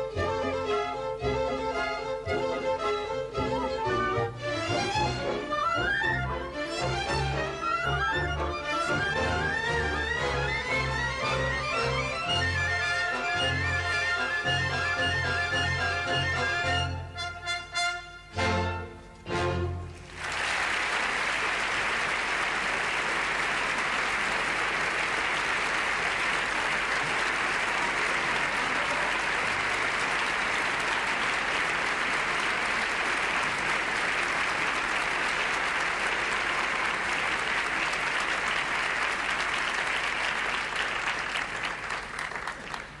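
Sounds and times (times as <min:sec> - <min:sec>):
audience applauding: 0:04.6 - 0:16.5, 0:19.8 - 0:43.0.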